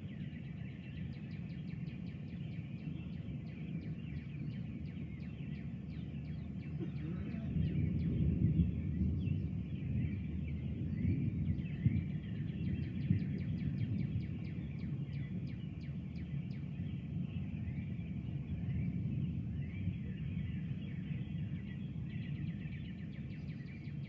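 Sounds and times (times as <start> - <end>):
birds chirping: 0.0 - 24.0
distant thunder rumbling: 0.0 - 24.0.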